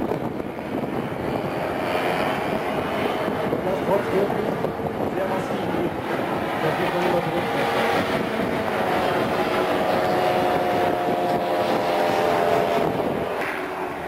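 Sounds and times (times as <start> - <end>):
model plane engines droning: 0.0 - 14.0.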